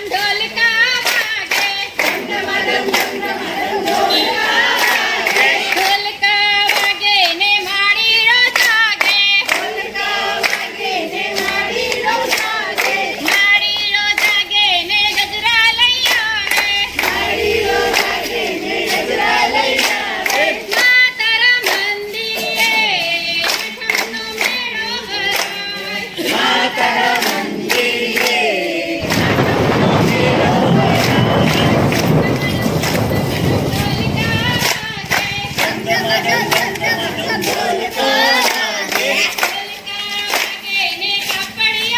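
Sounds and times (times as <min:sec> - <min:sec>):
people singing together: 0:00.0 - 0:41.9
rhythmic hand claps: 0:00.0 - 0:41.9.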